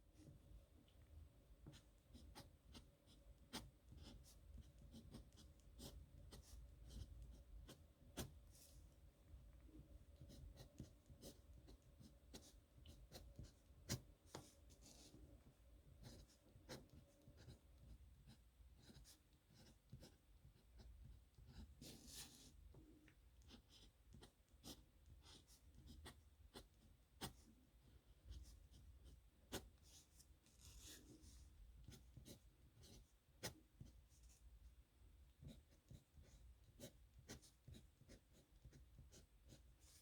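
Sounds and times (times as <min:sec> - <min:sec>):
pen scratching on paper: 0:01.6 - 0:08.8, 0:10.2 - 0:15.2, 0:16.0 - 0:22.6, 0:23.4 - 0:27.5, 0:28.3 - 0:34.4, 0:35.4 - 0:40.0.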